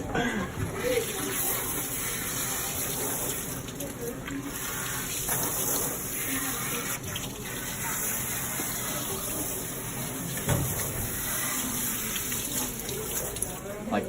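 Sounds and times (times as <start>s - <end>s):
water spraying from hose: 0.7s - 13.6s.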